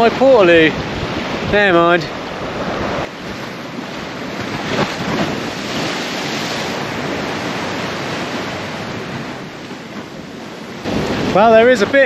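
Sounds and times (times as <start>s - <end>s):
sea waves washing onto beach: 0.0s - 12.0s
wind on microphone: 0.0s - 12.0s.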